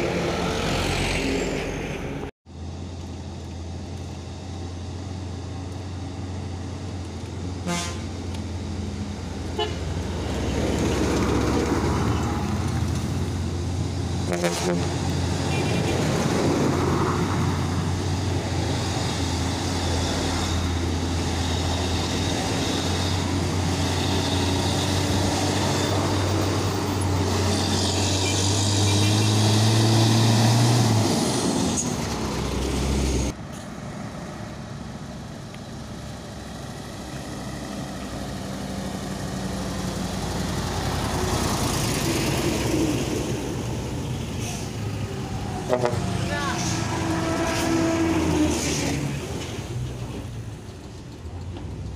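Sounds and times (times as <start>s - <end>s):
diesel trucks passing: 0.0s - 51.9s
distant trucks humming: 0.0s - 51.9s.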